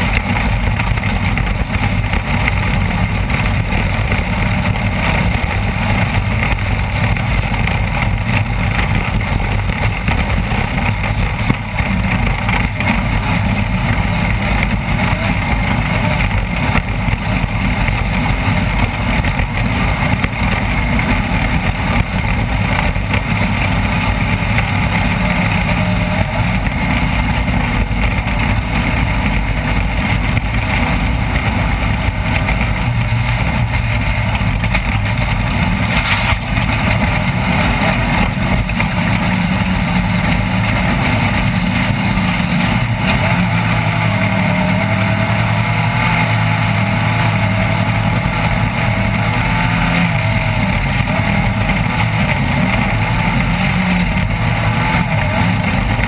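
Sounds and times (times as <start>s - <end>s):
loud rush of noise: 0.0s - 56.0s
race vehicle engine running hard: 0.0s - 56.0s.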